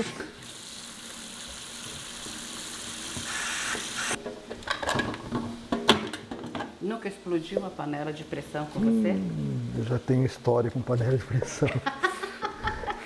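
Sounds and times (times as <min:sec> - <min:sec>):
vegetables sizzling in a pot: 0:00.0 - 0:11.8.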